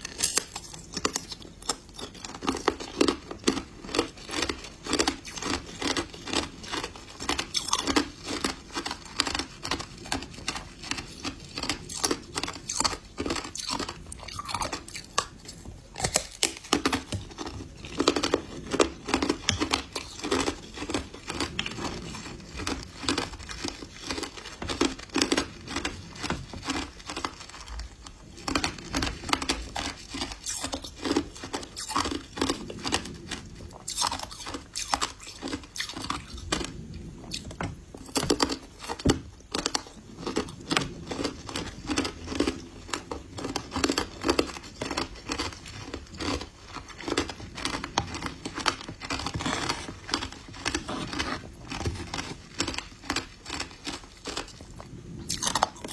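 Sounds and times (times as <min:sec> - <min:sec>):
ice being chewed crunching: 0:00.0 - 0:55.9.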